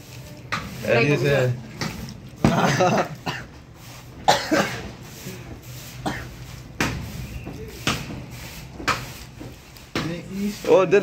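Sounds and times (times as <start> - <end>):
hands squishing wet pulp: 0.0 - 11.0.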